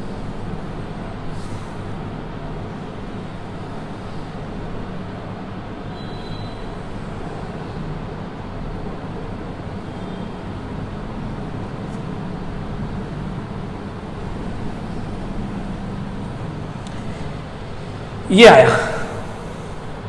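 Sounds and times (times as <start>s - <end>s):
low rumbling noise with hiss: 0.0s - 20.0s.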